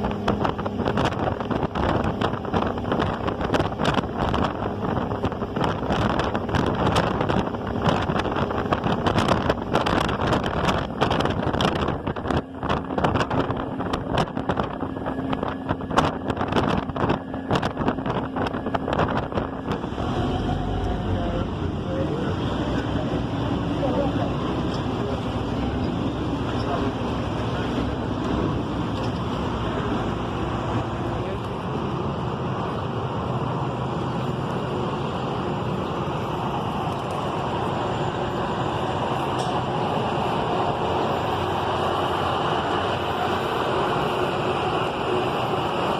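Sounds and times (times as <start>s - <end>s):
boat engine running: 0.0s - 45.9s
steady low hum: 0.0s - 45.9s
wind buffeting microphone: 0.0s - 45.9s.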